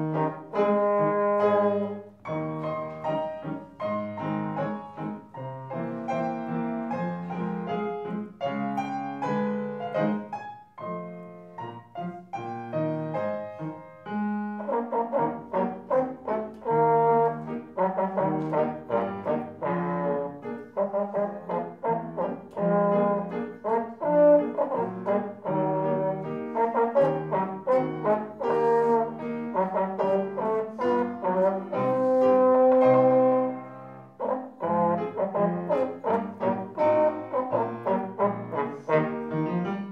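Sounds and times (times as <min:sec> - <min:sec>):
trombone melody: 0:00.0 - 0:11.0, 0:12.7 - 0:39.9
piano accompaniment: 0:00.0 - 0:39.9.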